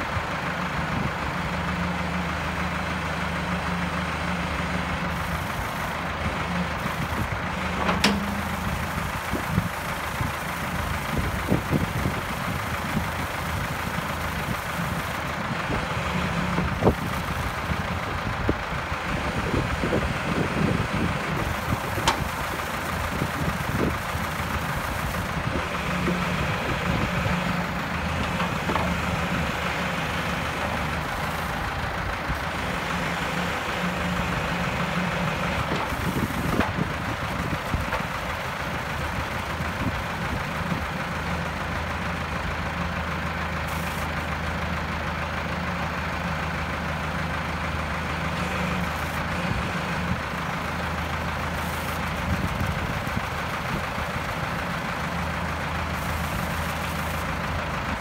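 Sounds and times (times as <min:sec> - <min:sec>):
backhoe engine running: 0:00.0 - 0:58.0.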